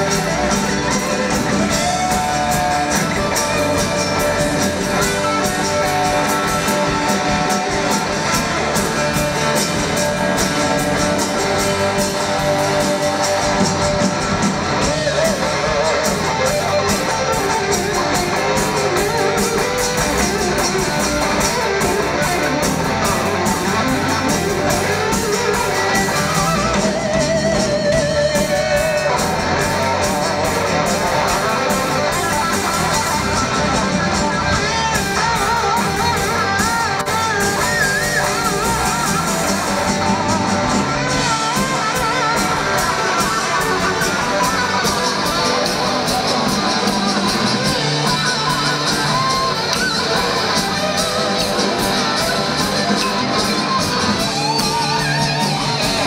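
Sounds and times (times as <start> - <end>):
electric guitar bent notes: 0.0 - 56.0
steady drum beat: 0.0 - 56.0.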